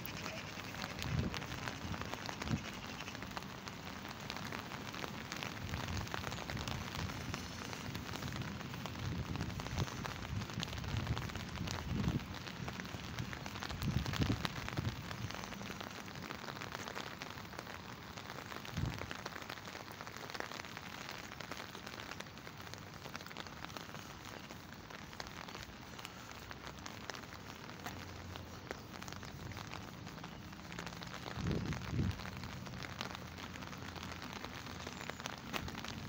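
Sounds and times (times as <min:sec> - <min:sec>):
light rain pattering: 0:00.0 - 0:36.0.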